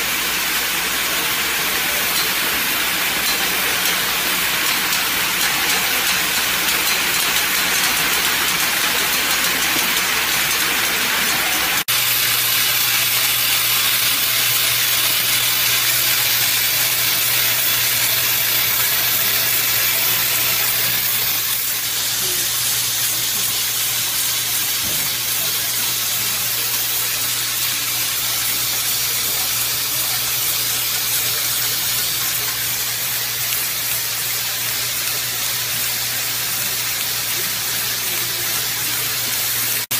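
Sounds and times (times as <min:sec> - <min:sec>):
machine hiss-like mechanical noise: 0:00.0 - 0:39.9.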